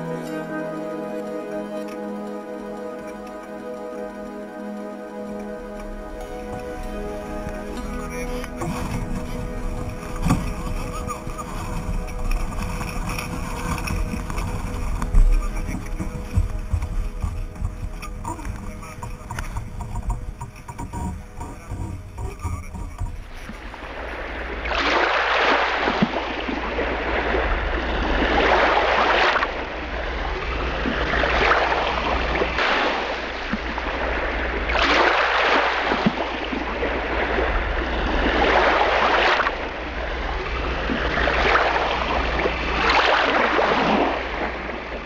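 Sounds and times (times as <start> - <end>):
waves rushing and splashing: 0.0 - 45.0.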